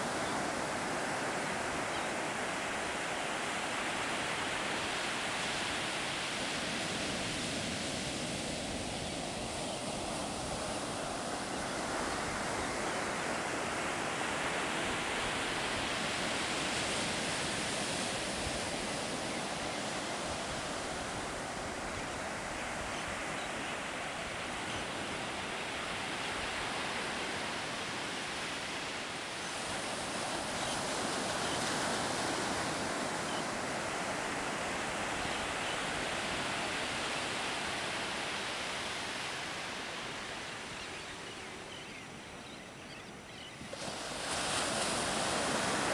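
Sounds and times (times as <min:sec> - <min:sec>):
ocean surf breaking on beach: 0:00.0 - 0:42.2, 0:43.1 - 0:45.9.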